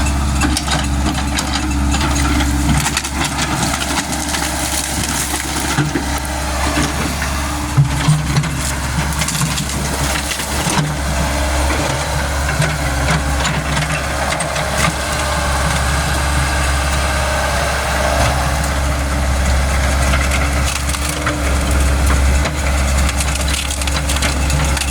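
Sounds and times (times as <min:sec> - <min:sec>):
excavator diesel engine running: 0:00.0 - 0:24.9
wood crunching and snapping: 0:00.5 - 0:24.9.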